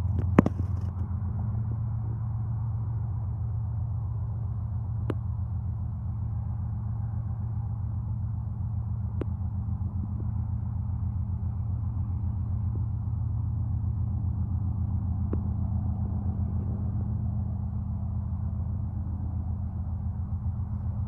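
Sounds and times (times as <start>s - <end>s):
diesel locomotive engines rumbling: 0.0s - 21.0s.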